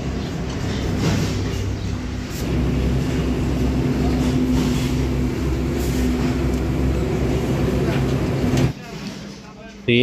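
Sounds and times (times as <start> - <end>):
low engine rumble: 0.0 - 8.8.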